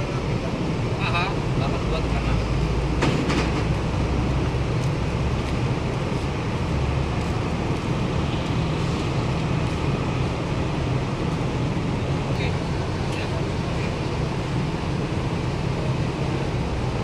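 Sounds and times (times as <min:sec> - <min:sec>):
low diesel engine rumble: 0:00.0 - 0:17.0.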